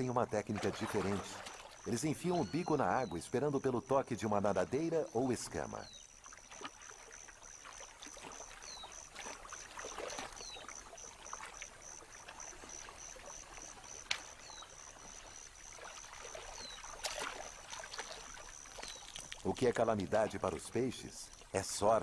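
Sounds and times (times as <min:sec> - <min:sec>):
shallow water splashing: 0:00.0 - 0:03.7, 0:04.5 - 0:22.0.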